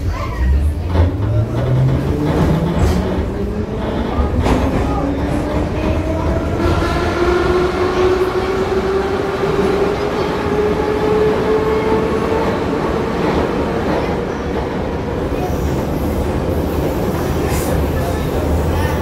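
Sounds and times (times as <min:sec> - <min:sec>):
rumble of wheels on track: 0:00.0 - 0:19.0.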